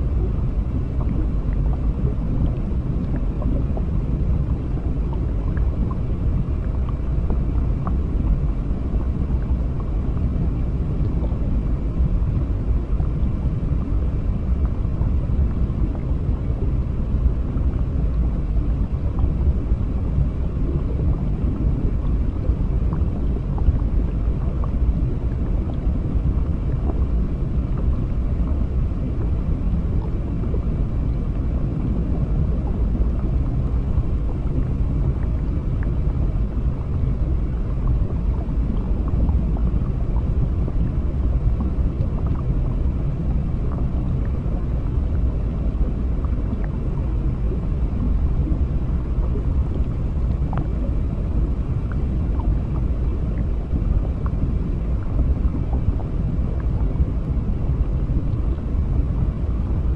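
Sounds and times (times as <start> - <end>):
muffled underwater rumble: 0.0 - 59.9.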